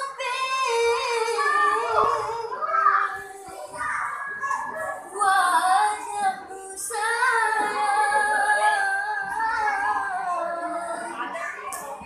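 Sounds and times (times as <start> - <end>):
boy singing: 0.0 - 12.0.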